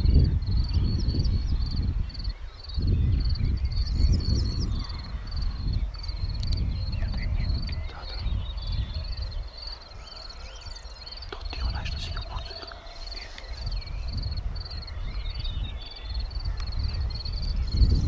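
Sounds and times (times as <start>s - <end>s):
bird calls: 0.0s - 18.0s
insect chirping: 0.0s - 18.0s
low wind rumble: 0.0s - 18.0s.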